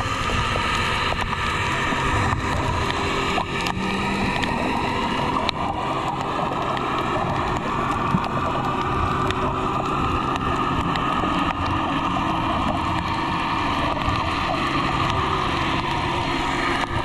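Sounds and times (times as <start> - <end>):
underwater rushing noise: 0.0 - 17.0.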